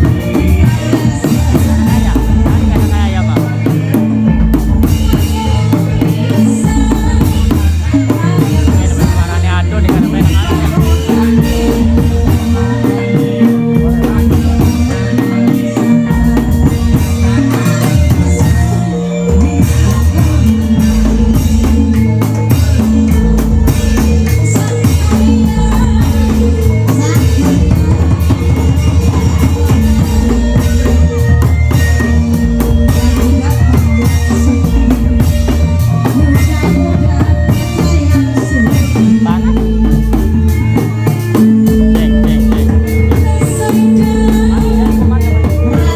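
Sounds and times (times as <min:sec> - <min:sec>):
held melodic line: 0:00.0 - 0:45.9.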